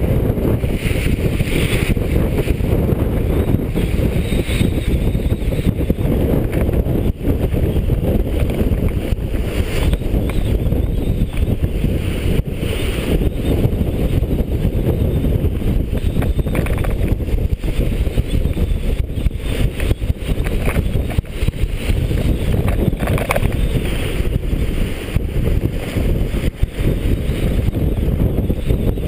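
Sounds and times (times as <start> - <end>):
water splashing along hull: 0.0 - 29.0
wind buffeting microphone: 0.0 - 29.0.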